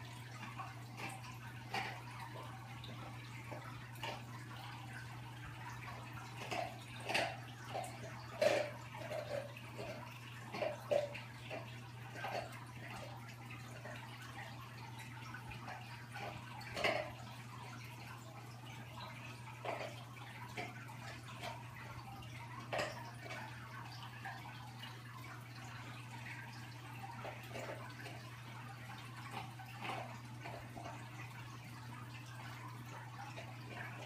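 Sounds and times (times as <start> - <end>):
aquarium water trickling: 0.0 - 34.0.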